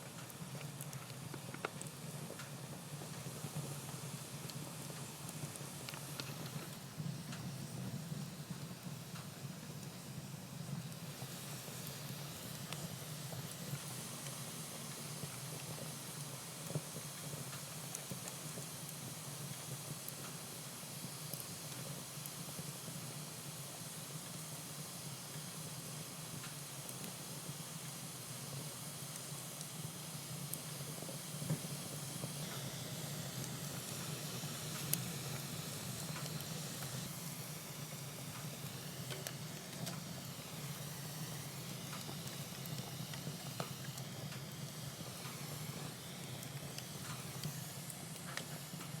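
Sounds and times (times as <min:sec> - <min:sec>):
fire crackles: 0:00.0 - 0:49.0
burning twig hissing: 0:00.3 - 0:49.0.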